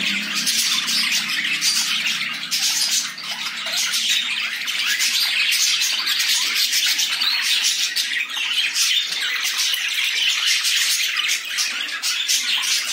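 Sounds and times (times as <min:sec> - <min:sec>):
birds chirping and squawking: 0:00.0 - 0:12.9.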